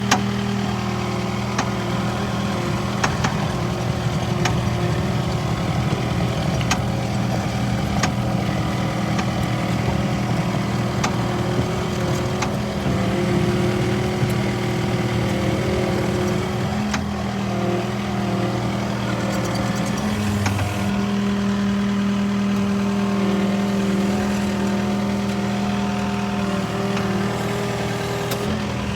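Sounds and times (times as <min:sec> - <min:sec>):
loader engine running: 0:00.0 - 0:28.9.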